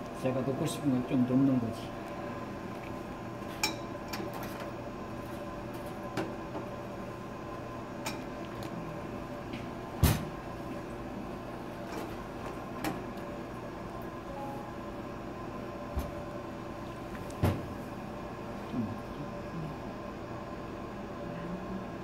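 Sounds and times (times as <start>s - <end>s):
kitchen hum: 0.0s - 22.0s.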